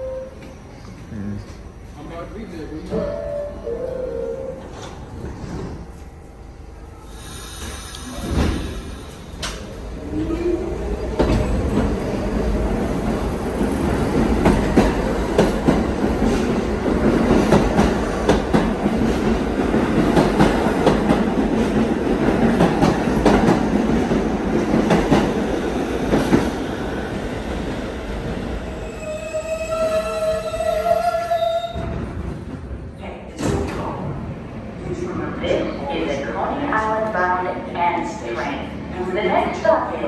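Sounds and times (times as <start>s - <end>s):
subway train rumbling on rails: 0.0s - 40.0s.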